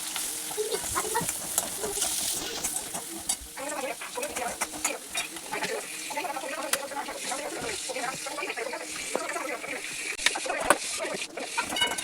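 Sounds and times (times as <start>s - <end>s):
light sizzle: 0.0s - 12.0s
spoon scraping frying pan: 0.0s - 12.0s
faint voices: 0.4s - 11.9s.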